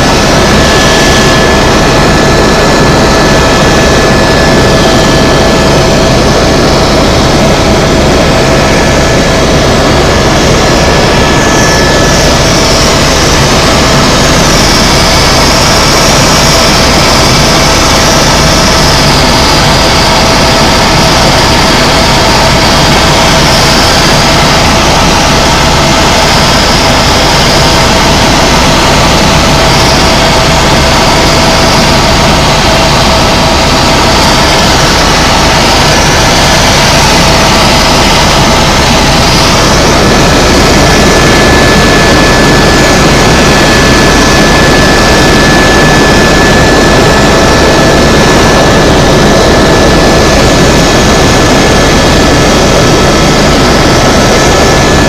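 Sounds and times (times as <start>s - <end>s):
helicopter rotor and turbine noise: 0.0s - 55.0s
thin steady whine: 0.0s - 55.0s.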